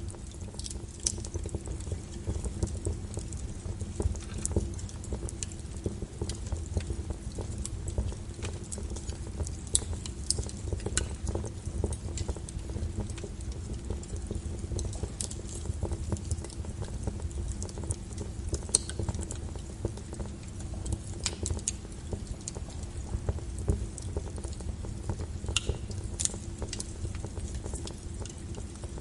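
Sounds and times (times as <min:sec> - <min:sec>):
log fire crackling: 0:00.0 - 0:29.0.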